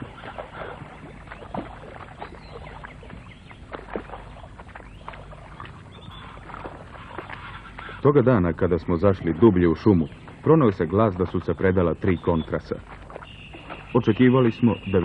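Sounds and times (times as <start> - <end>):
boots splashing through mud: 0.0 - 15.0.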